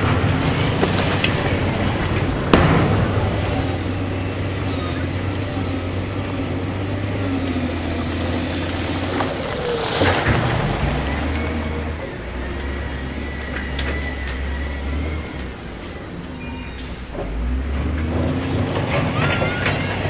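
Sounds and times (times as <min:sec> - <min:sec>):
diesel earthmoving machinery running: 0:00.0 - 0:20.0.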